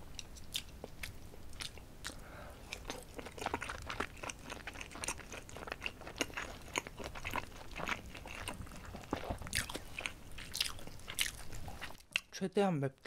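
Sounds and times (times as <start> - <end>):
person chewing food: 0.1 - 12.3.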